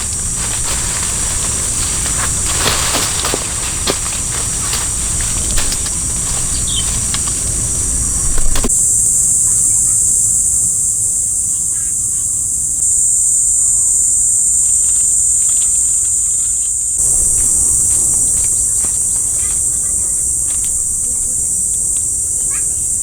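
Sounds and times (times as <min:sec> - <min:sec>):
insect chorus buzzing: 0:00.0 - 0:23.0.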